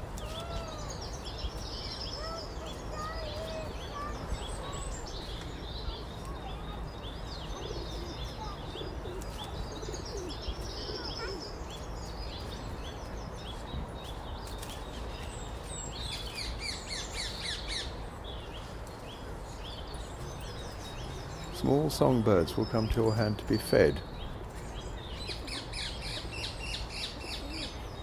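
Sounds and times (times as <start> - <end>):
other birds calling: 0.0 - 28.0.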